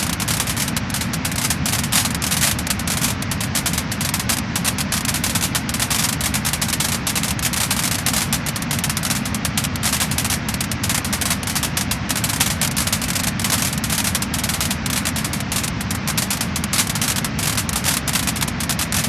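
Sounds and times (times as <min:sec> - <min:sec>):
continuous hiss: 0:00.0 - 0:19.0
wood fire crackling: 0:00.0 - 0:19.0.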